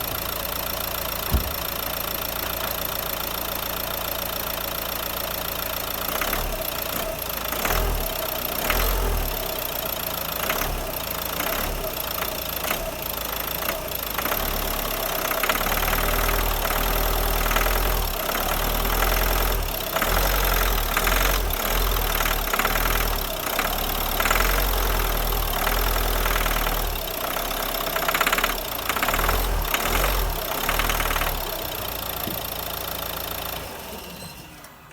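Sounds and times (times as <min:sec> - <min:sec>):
engine knocking clatter: 0:00.0 - 0:33.6
diesel engine idling and revving: 0:00.0 - 0:34.9.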